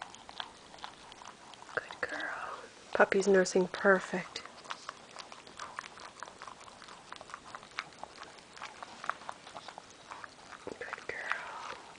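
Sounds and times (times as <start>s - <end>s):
puppy suckling wet smacking: 0.0s - 11.9s.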